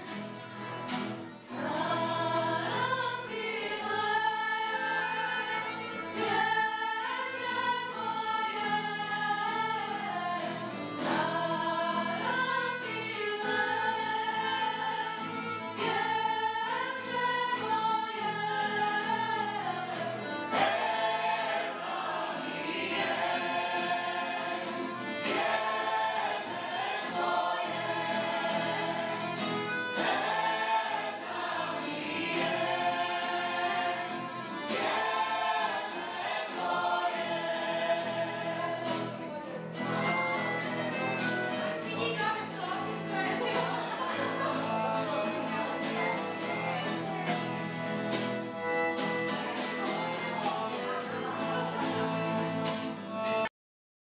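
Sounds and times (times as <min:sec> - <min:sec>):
choir singing: 0:01.4 - 0:53.2.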